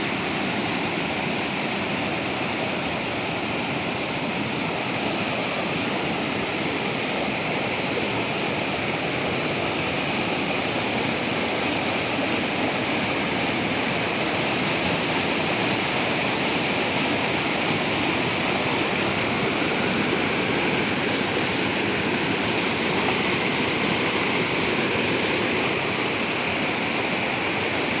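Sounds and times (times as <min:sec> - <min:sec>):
river flowing: 0:00.0 - 0:28.0.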